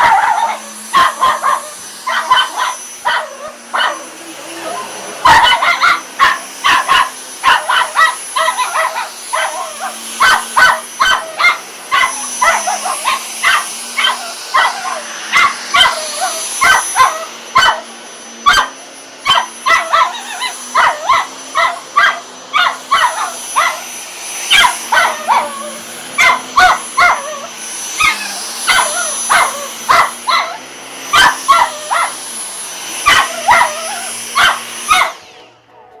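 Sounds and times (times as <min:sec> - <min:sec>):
dog barking: 0:00.0 - 0:04.2, 0:05.2 - 0:23.9, 0:24.5 - 0:32.2, 0:33.0 - 0:35.2
vacuum cleaner hum: 0:00.0 - 0:35.8.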